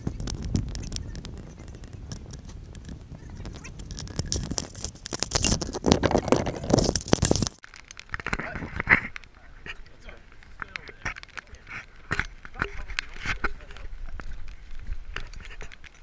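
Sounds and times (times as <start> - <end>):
buffeting and scraping noise: 0.0 - 7.6, 8.2 - 16.0
footsteps: 0.0 - 16.0
rustling: 0.0 - 16.0.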